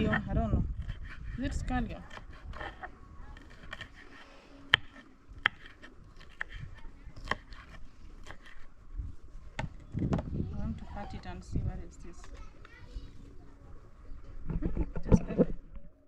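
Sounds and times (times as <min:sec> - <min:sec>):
faint voices: 0:01.3 - 0:16.0.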